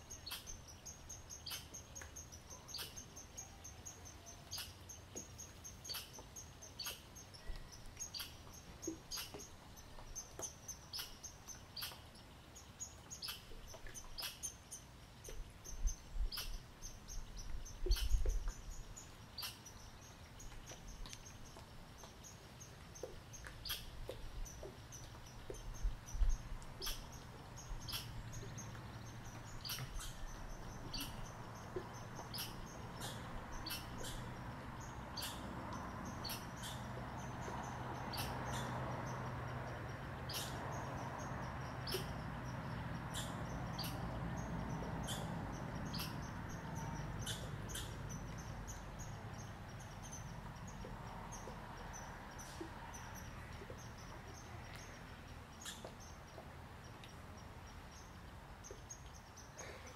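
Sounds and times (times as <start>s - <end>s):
chipmunk chipping: 0.0s - 12.2s, 12.9s - 59.5s.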